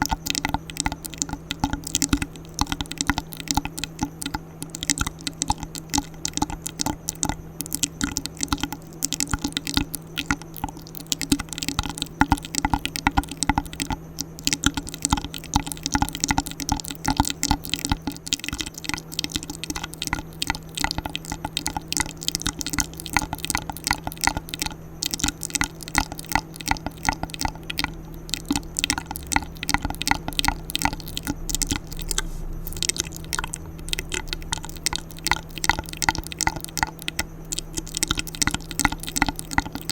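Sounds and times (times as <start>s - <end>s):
faint steady hum: 0.0s - 39.9s
wet mouth clicks and smacks: 0.0s - 39.9s.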